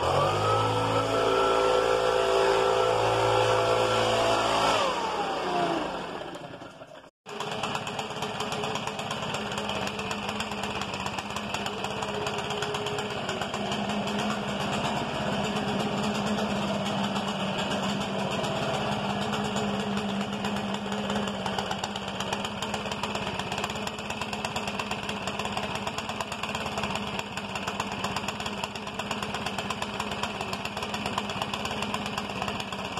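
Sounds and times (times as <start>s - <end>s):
leaf blower engine idling: 0.0s - 32.9s.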